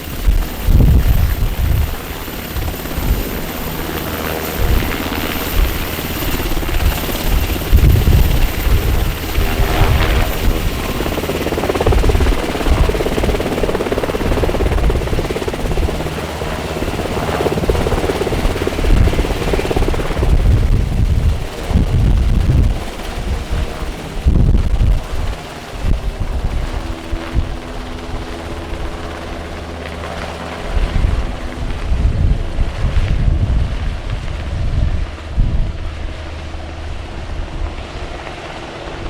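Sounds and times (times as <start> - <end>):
helicopter rotors and engines: 0.0 - 39.0.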